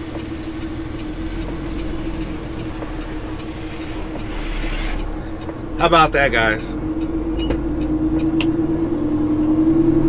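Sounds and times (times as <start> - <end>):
diesel truck engine hum: 0.0 - 10.0.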